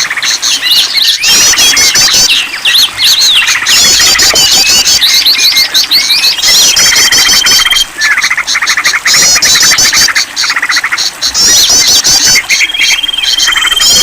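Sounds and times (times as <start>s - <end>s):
bird trills: 0.1s - 14.0s
high bird chirps: 0.2s - 14.0s.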